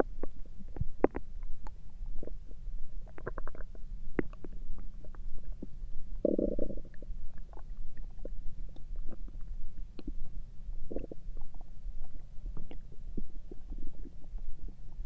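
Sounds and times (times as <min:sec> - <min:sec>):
steady low hum: 0:00.0 - 0:15.0
stomach rumbling and gurgling: 0:00.0 - 0:15.0.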